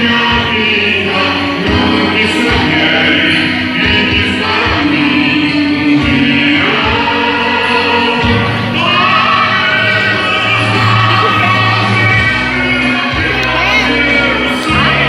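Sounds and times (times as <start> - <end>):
backing music with bass line: 0.0 - 15.0
choir singing: 0.0 - 15.0.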